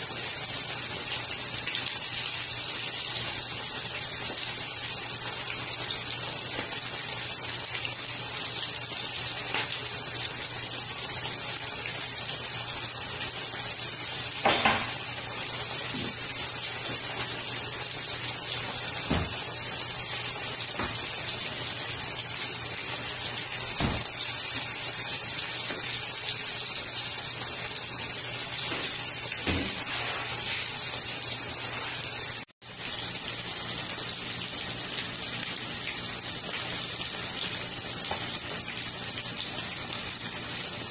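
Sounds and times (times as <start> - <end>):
chicken sizzling in hot oil: 0.0 - 40.9.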